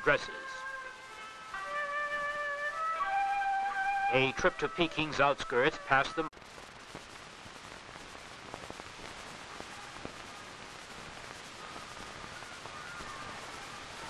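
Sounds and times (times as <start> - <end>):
faint musical tones: 0.0 - 6.3, 8.6 - 14.0
film soundtrack hiss: 0.0 - 14.0.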